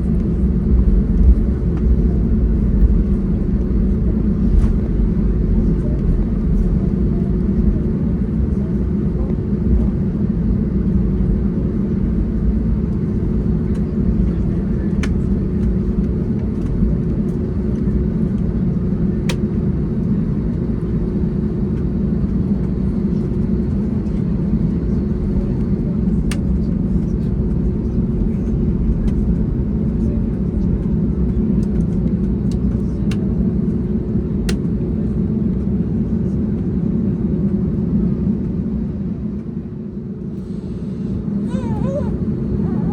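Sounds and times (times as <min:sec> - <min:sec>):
aircraft cabin rumble: 0:00.0 - 0:42.9
jet engines at low thrust: 0:00.0 - 0:42.9.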